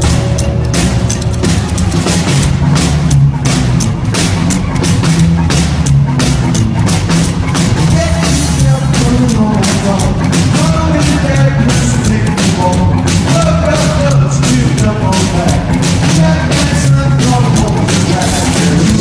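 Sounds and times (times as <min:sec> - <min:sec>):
drum kit beat: 0:00.0 - 0:19.0
electric guitar: 0:00.0 - 0:19.0
upright double bass: 0:00.0 - 0:19.0.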